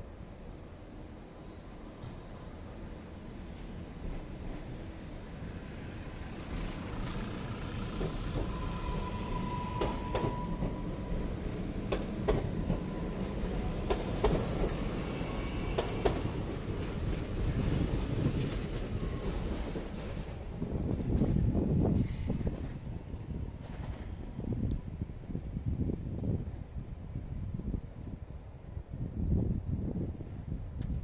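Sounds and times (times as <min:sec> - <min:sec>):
train rolling past: 0:00.0 - 0:27.3.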